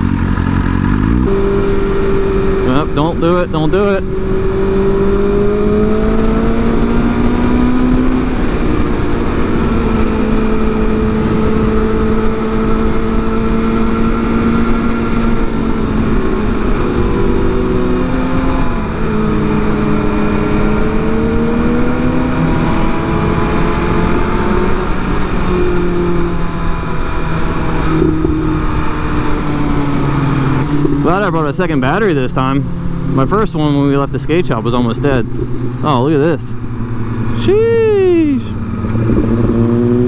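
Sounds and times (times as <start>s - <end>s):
motorcycle engine pulling: 0.0s - 37.4s
heavy wind rush: 0.0s - 40.0s.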